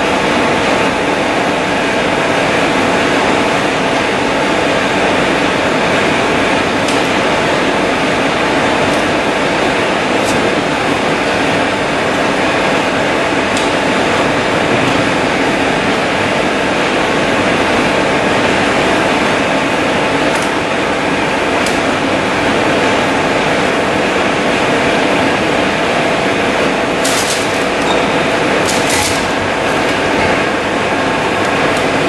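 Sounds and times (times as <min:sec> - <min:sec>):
lathe running: 0:00.0 - 0:32.0.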